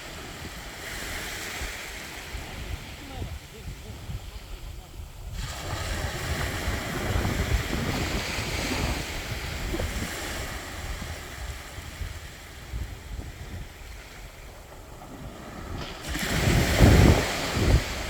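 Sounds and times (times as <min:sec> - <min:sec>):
sea waves breaking on beach: 0:00.0 - 0:18.0
wind rumbling on microphone: 0:00.0 - 0:18.0.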